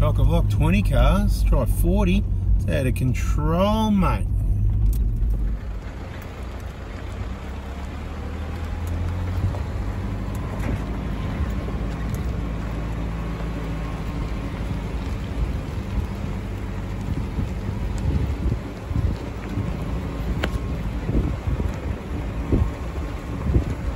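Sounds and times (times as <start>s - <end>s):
vehicle engine running low: 0.0s - 23.9s.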